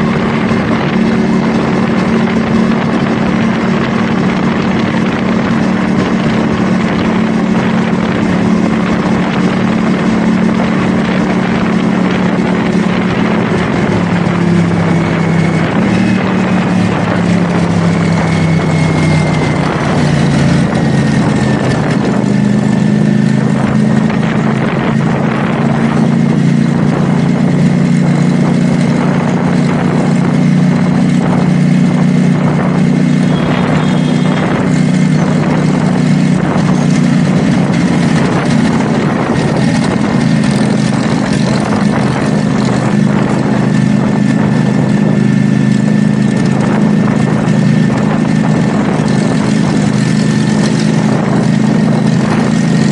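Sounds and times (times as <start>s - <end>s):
motorcycle engine cruising: 0.0s - 52.9s
wind rush over microphone: 0.0s - 52.9s.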